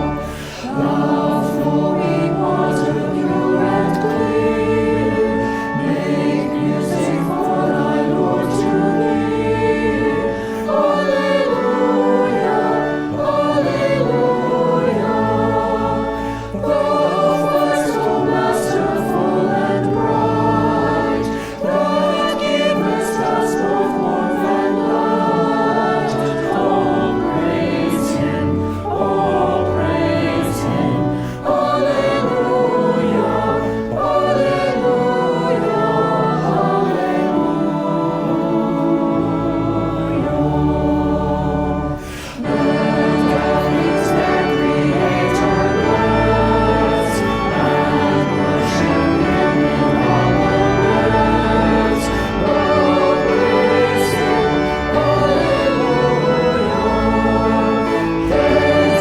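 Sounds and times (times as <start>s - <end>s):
choir singing: 0.0s - 59.0s
musical accompaniment: 0.0s - 59.0s.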